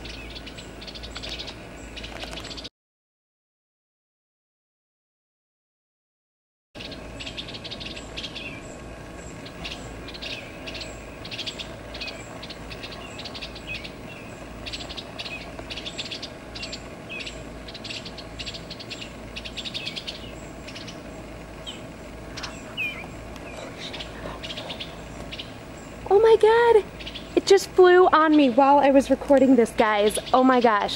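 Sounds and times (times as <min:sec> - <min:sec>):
birds chattering calls: 0:00.0 - 0:02.7, 0:06.8 - 0:30.9
steady low hum: 0:00.0 - 0:02.7, 0:06.8 - 0:30.9.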